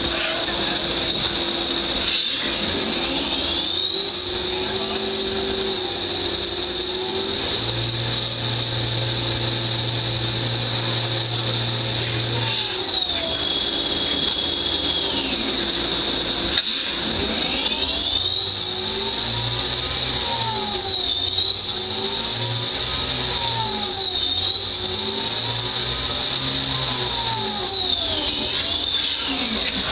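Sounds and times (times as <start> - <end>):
lathe spindle whine: 0.0 - 29.9.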